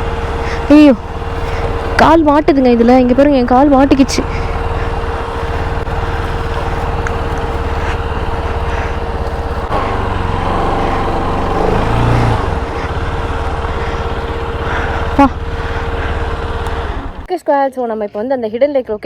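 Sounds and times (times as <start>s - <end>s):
motorcycle engine running: 0.0s - 17.3s.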